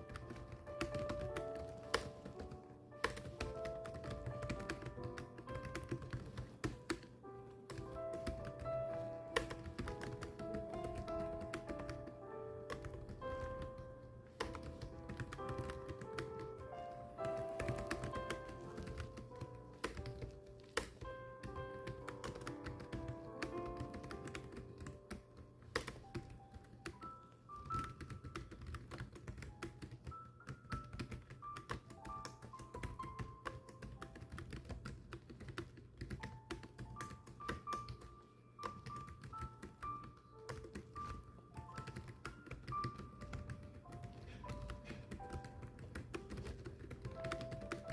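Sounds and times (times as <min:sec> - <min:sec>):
rapid keyboard typing: 0:00.0 - 0:47.9
slow background music: 0:00.0 - 0:47.9.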